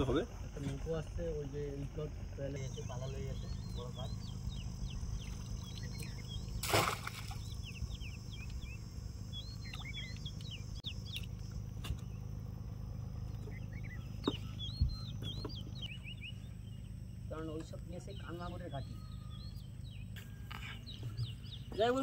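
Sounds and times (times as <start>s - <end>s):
low rumble: 0.0s - 21.8s
birds chirping: 0.0s - 22.0s.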